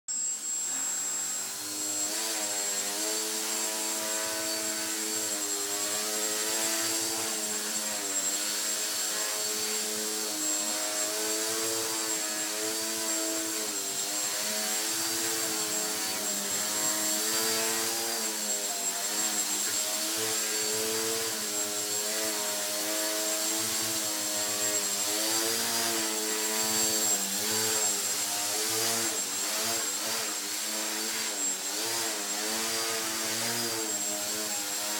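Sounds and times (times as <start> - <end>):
thin high whine: 0.1 - 32.2
electric motor and propeller buzzing: 0.1 - 34.9.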